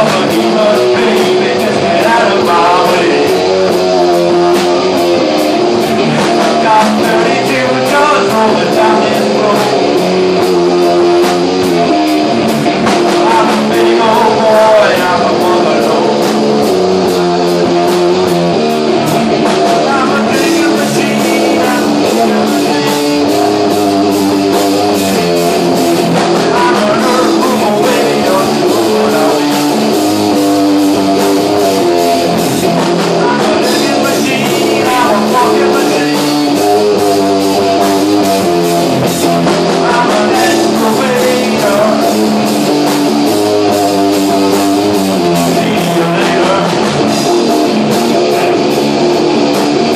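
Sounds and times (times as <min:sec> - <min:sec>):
drum kit beat: 0:00.0 - 0:49.9
guitars: 0:00.0 - 0:49.9.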